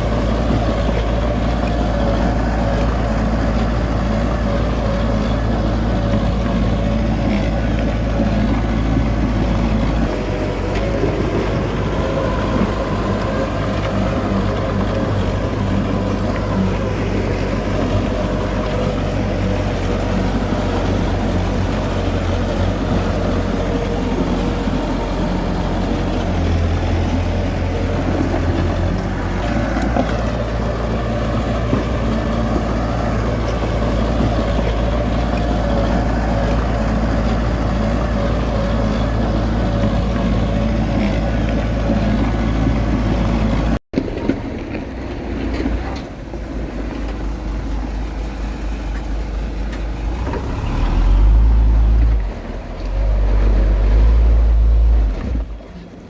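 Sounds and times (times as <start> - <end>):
heavy diesel engine under load: 0.0 - 56.0.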